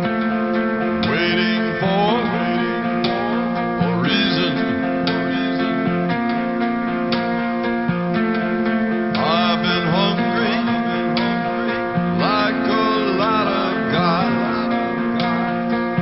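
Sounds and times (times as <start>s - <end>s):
rock ballad: 0.0s - 16.0s
strummed acoustic guitar: 0.0s - 16.0s.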